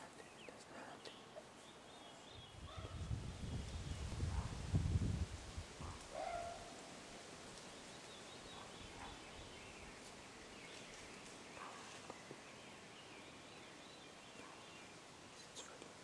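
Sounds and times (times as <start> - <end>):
faint distant birdsong: 0.0 - 4.6, 5.8 - 16.0.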